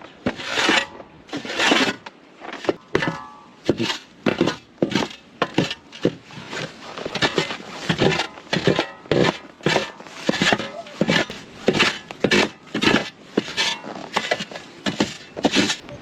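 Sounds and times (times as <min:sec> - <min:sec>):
scraping: 0:00.2 - 0:16.0.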